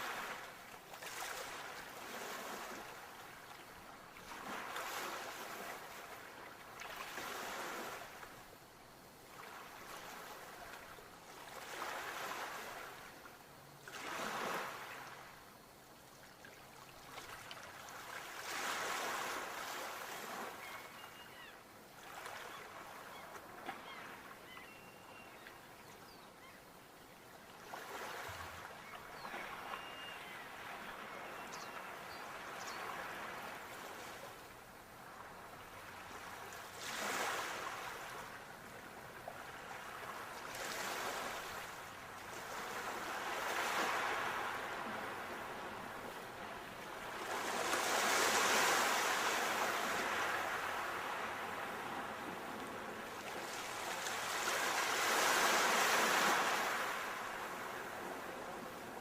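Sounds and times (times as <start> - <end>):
ocean waves breaking on shore: 0.0 - 8.6, 9.2 - 15.7, 17.0 - 26.6, 27.5 - 59.0.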